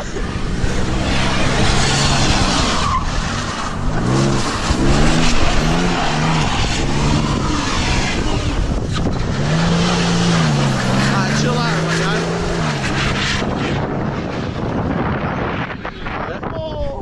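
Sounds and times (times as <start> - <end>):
truck engine revving: 0.0 - 16.2
loud rushing noise: 0.0 - 16.5.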